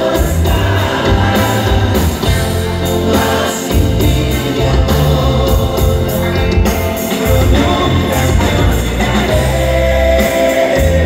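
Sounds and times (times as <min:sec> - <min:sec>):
live band playing through speakers: 0:00.0 - 0:11.0
person singing: 0:00.0 - 0:11.0.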